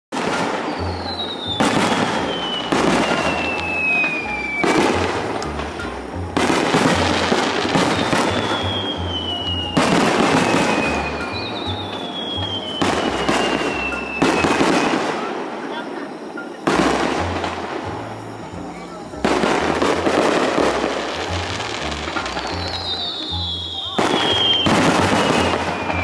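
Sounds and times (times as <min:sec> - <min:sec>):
firework bangs with crackling: 0:00.1 - 0:15.8, 0:16.6 - 0:26.0
falling firework whistles: 0:00.2 - 0:05.6, 0:06.4 - 0:26.0.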